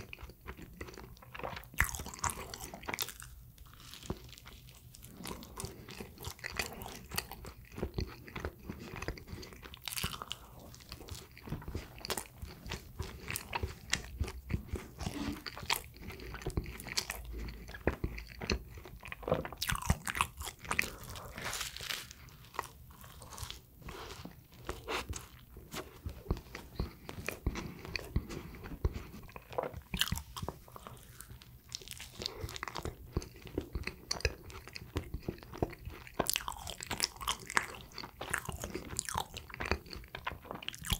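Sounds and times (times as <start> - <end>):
person chewing bread: 0.0 - 40.9.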